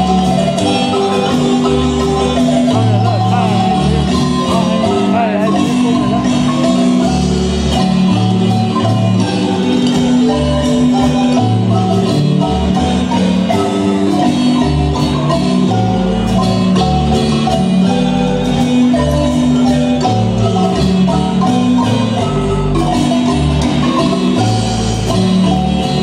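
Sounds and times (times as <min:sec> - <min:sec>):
marimba band playing: 0:00.0 - 0:26.0.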